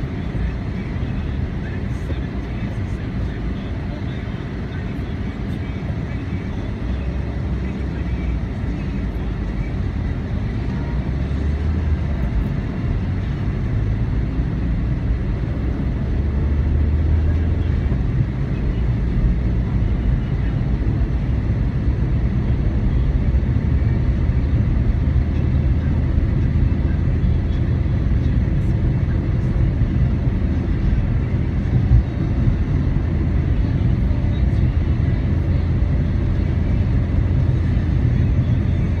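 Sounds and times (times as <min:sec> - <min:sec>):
car engine and tyre rumble: 0:00.0 - 0:39.0.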